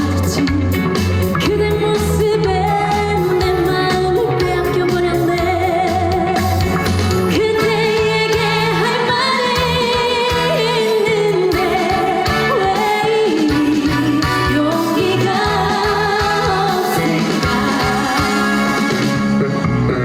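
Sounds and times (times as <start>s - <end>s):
backing track with bass and guitar: 0.0s - 20.0s
woman singing with vibrato: 1.4s - 18.9s.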